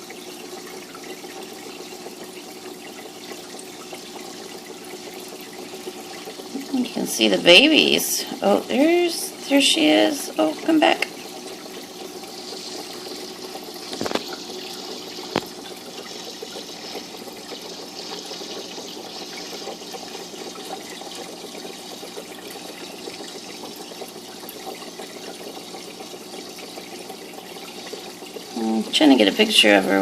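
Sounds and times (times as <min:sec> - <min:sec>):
water trickling in fish tank: 0:00.0 - 0:30.0.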